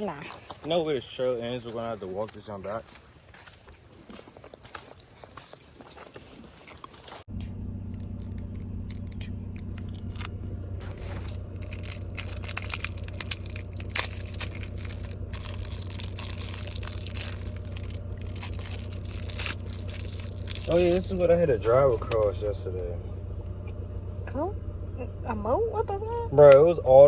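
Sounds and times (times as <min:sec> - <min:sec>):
tyres crunching on gravel: 0:00.0 - 0:23.9
road and engine drone: 0:00.0 - 0:27.0.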